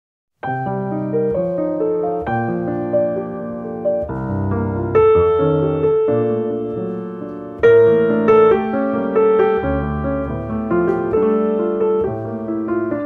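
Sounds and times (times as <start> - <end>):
piano music: 0.4 - 13.0.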